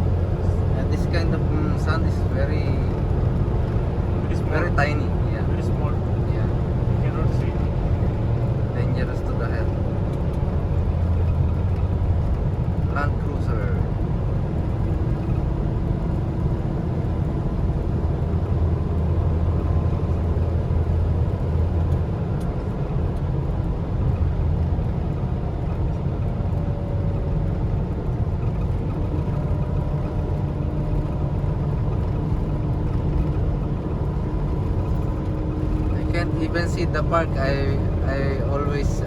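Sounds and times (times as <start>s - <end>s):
car road and engine noise: 0.0s - 39.0s.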